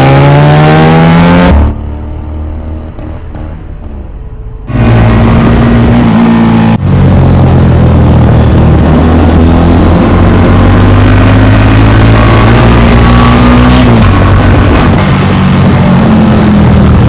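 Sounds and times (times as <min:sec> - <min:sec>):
motorcycle engine with loud exhaust: 0:00.0 - 0:17.0.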